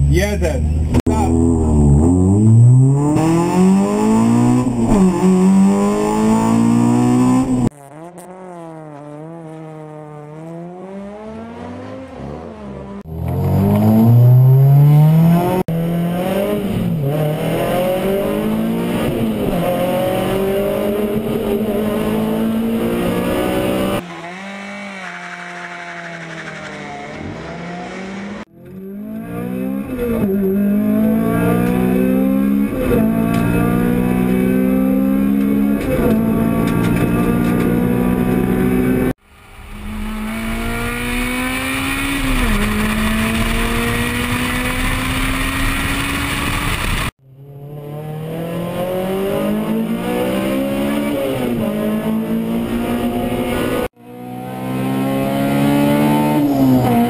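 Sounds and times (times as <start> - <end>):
car engine revving hard: 1.1 - 25.0, 26.8 - 39.2, 39.9 - 47.2, 47.8 - 57.0.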